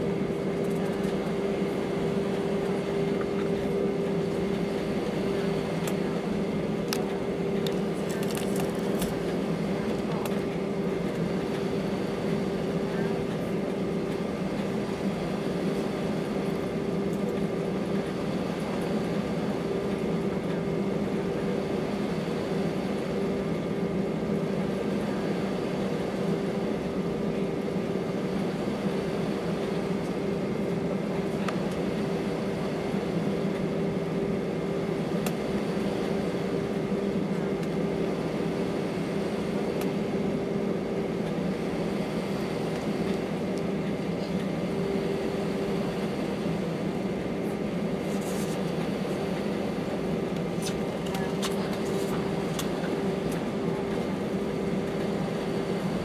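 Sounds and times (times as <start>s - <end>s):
jet engines idling: 0.0s - 56.0s.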